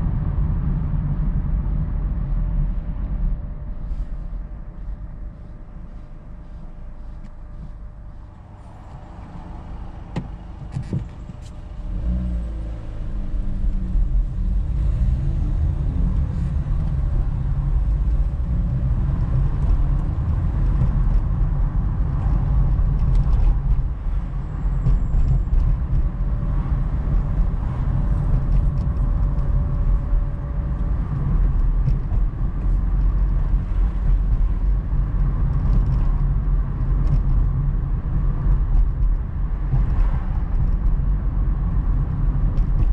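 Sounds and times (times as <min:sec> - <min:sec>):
car engine and tyre noise: 0:00.0 - 0:42.9.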